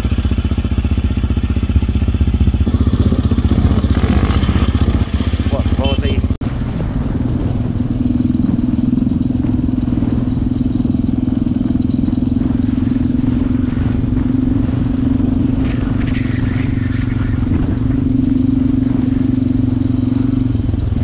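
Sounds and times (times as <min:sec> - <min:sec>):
quad engine droning: 0:00.0 - 0:21.0.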